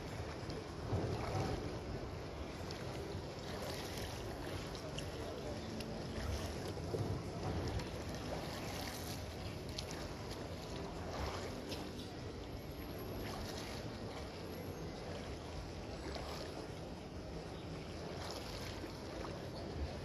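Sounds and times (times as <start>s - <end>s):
low rumble of water and wind: 0.0s - 20.0s
water splashing from arm strokes: 0.0s - 20.0s.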